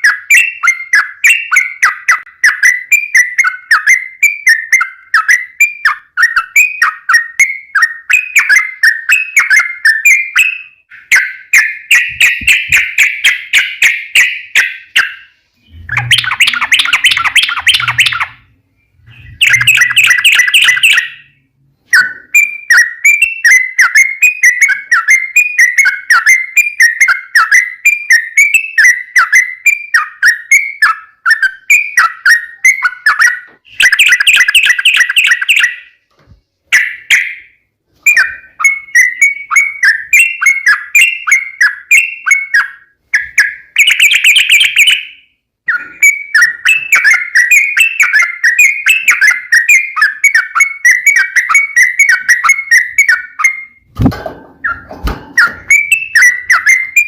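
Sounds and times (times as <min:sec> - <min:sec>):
bulbul singing: 0:00.0 - 0:36.1, 0:36.7 - 0:57.0.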